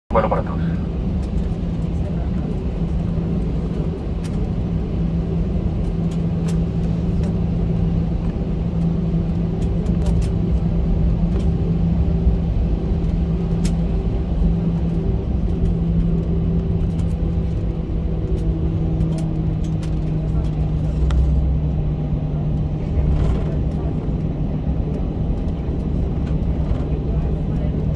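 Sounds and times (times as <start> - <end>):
aircraft engine hum: 0.1 - 27.9
low rumble: 0.1 - 27.9.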